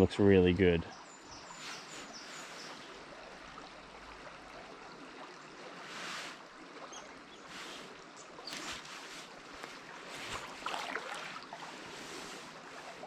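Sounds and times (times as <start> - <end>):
river flowing: 0.6 - 13.0.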